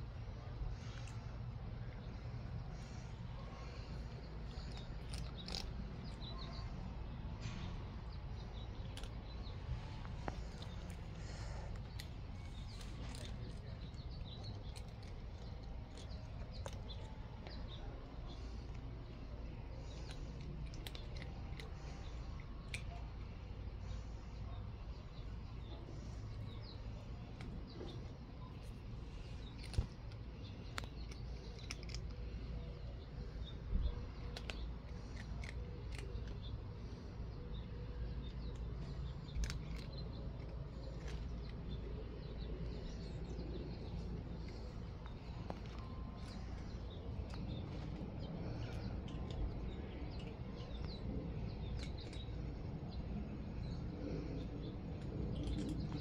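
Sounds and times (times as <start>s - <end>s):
birds chirping faintly: 0.0s - 56.0s.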